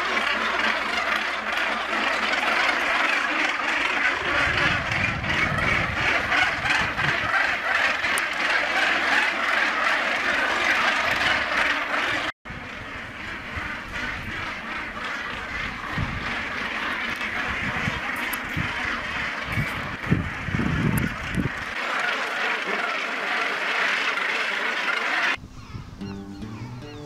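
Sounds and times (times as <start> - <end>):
gannet colony calling: 0.0 - 25.4.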